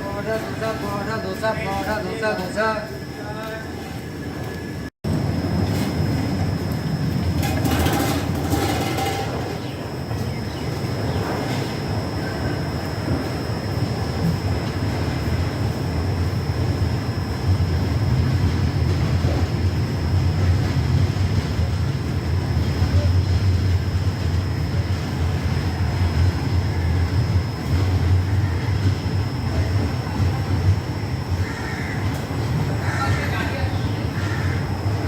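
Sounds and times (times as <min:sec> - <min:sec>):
train rumbling at speed: 0:00.0 - 0:35.0.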